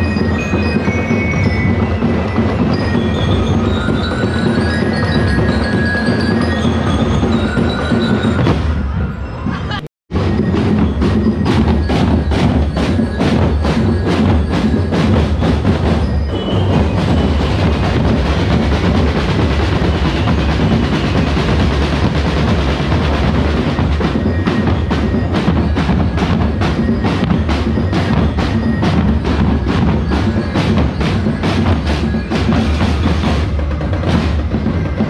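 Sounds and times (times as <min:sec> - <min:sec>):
drum band playing: 0:00.0 - 0:35.0.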